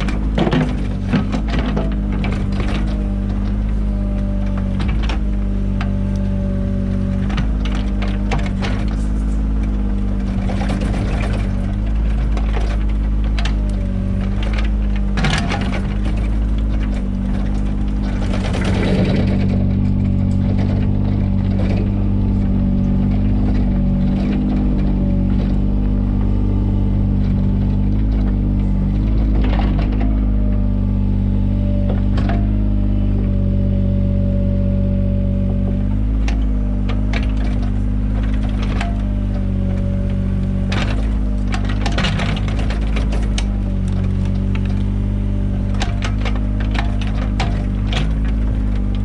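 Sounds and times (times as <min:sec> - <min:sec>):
metal knocks and clanks: 0:00.0 - 0:06.2, 0:06.8 - 0:30.9, 0:35.5 - 0:49.0
excavator engine running: 0:00.0 - 0:49.0.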